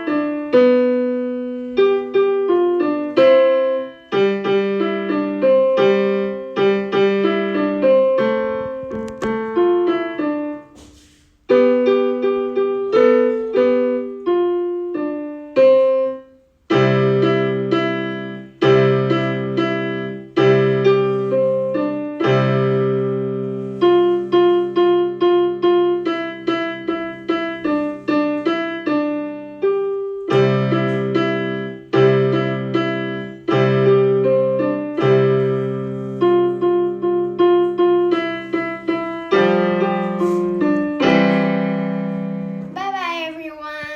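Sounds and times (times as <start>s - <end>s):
piano melody: 0.0s - 10.8s, 11.4s - 43.9s.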